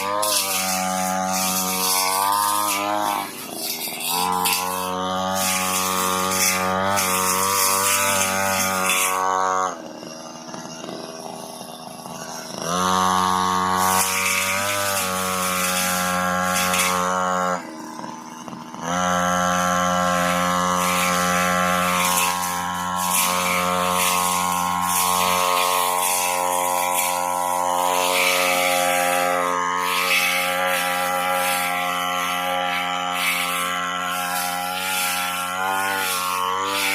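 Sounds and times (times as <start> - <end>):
brush cutter engine revving: 0.0 - 36.9.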